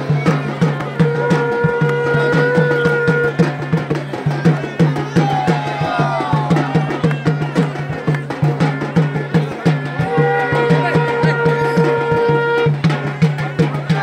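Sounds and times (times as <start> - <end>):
drums beating quick rhythm: 0.0 - 14.0.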